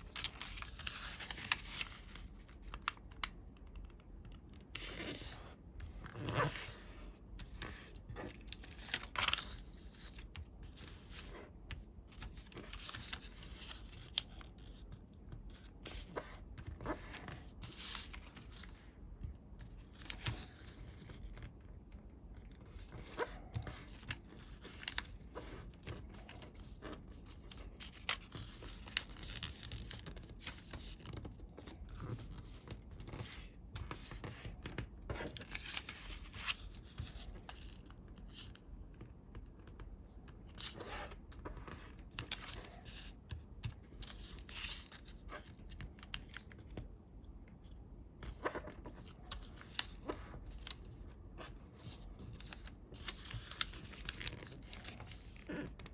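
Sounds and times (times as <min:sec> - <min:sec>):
paper rustling and scraping: 0:00.0 - 0:03.2, 0:04.7 - 0:11.6, 0:12.2 - 0:14.8, 0:15.5 - 0:18.9, 0:22.6 - 0:38.6, 0:40.5 - 0:46.8, 0:48.2 - 0:55.9.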